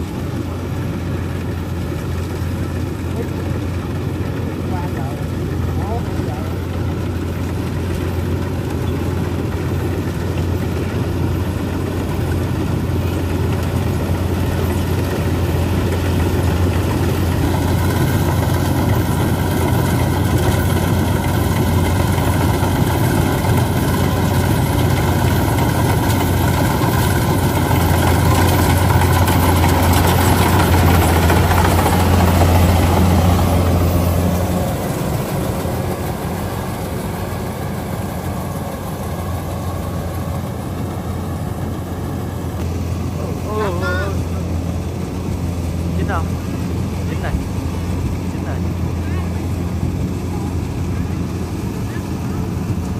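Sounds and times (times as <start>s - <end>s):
combine harvester engine humming: 0.0s - 52.9s.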